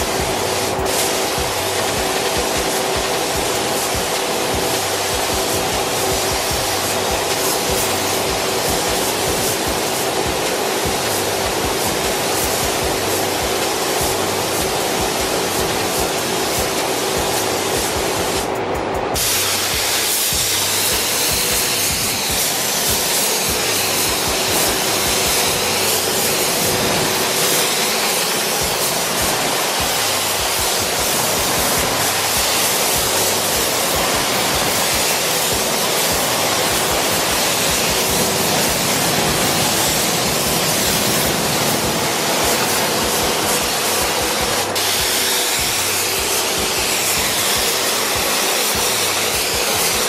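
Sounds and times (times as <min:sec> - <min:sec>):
spray gun hissing: 0:00.0 - 0:50.0.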